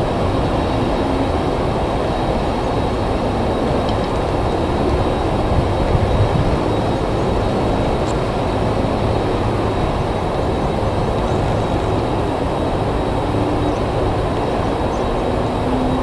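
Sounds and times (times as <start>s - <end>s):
faint high whine: 0.0s - 16.0s
jet engines rumbling: 0.0s - 16.0s.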